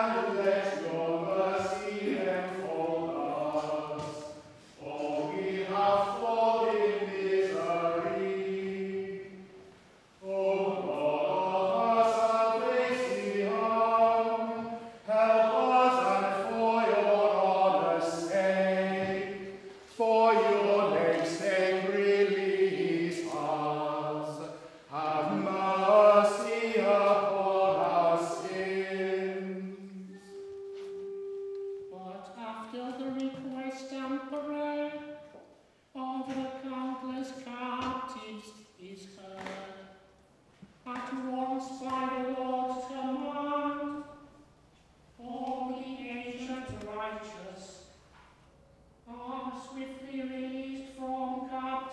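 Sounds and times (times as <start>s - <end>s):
choir singing chant: 0.0s - 35.4s, 40.9s - 44.4s, 49.1s - 51.9s.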